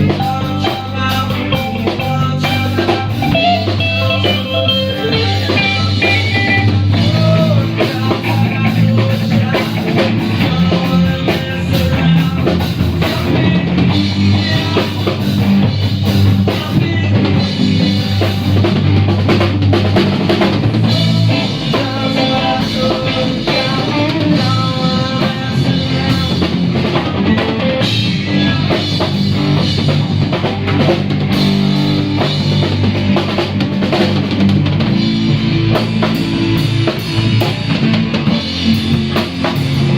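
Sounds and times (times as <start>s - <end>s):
bass notes: 0.0s - 39.9s
drum kit beat: 0.0s - 39.9s.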